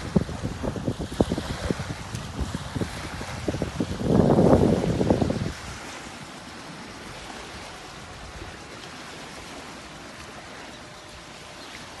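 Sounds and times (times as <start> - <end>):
small lake waves washing in: 0.0 - 12.0
wind hiss: 0.0 - 12.0.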